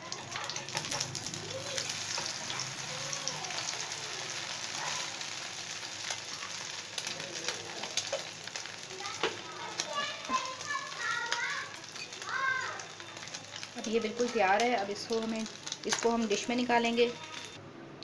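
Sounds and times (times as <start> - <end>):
egg sizzling in a pan: 0.0 - 17.6.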